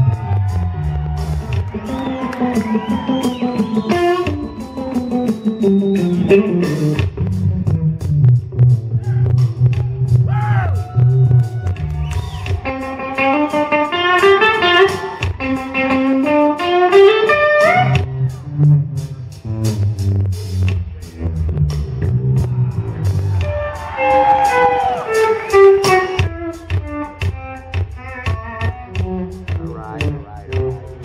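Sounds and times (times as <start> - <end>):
bass guitar: 0.0 - 31.0
drums: 0.0 - 31.0
electric guitars playing lead: 0.0 - 31.0.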